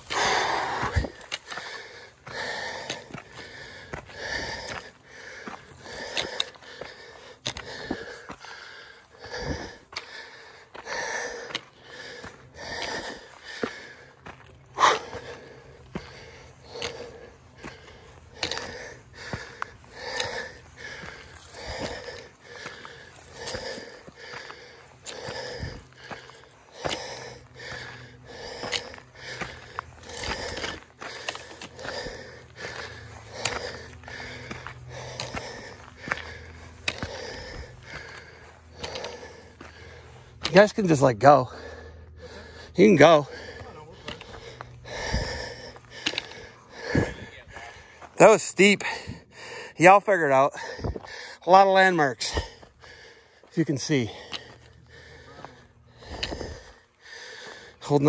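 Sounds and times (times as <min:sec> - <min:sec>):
footsteps on dirt trail: 0:00.0 - 0:58.0
heavy breathing: 0:00.0 - 0:58.0.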